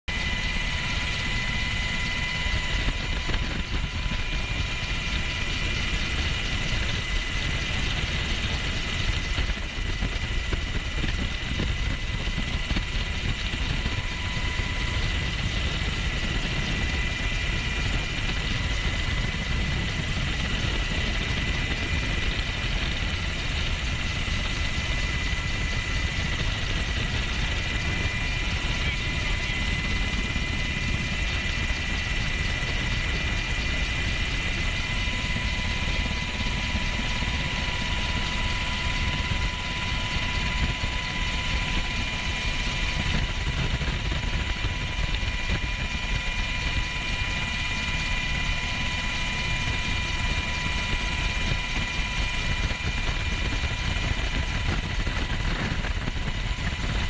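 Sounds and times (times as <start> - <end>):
aircraft engines droning: 0.1 - 57.0.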